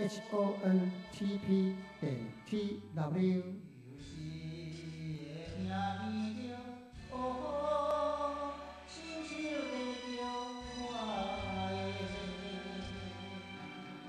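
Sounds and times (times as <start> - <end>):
music: 0.0 - 14.0.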